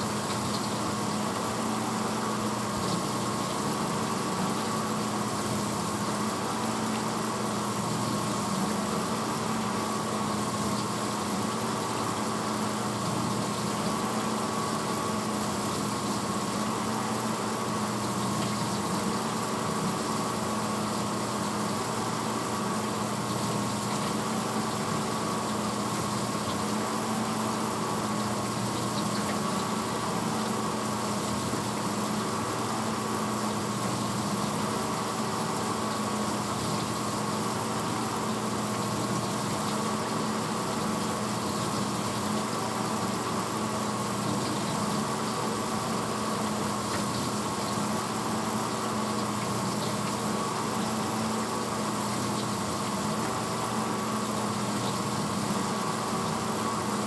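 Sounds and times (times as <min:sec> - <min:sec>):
dishwasher motor hum: 0:00.0 - 0:57.0
water circulating in dishwasher: 0:00.0 - 0:57.0.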